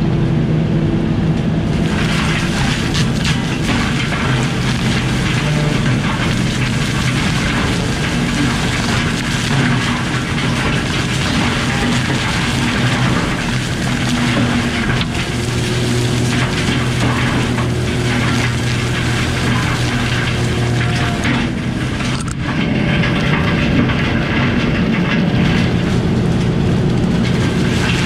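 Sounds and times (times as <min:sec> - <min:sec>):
diesel engine under load: 0:00.0 - 0:28.0
mulcher grinding brush: 0:01.4 - 0:28.0
sharp knocks of wood shredding: 0:01.6 - 0:28.0.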